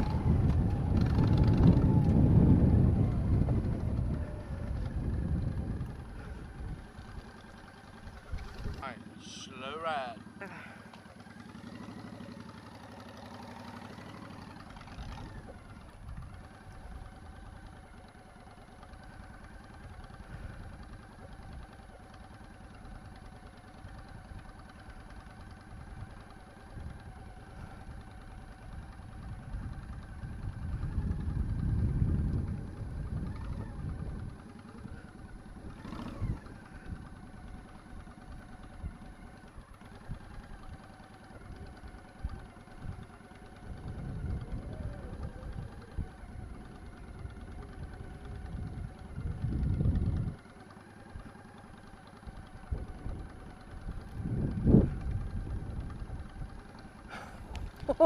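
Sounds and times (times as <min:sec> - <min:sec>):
motorcycle engine running slowly: 0:00.0 - 0:58.0.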